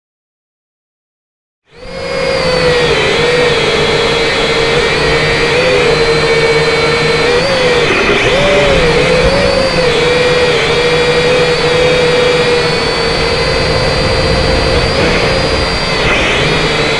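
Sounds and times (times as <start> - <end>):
quadcopter propellers whining: 1.7 - 16.9.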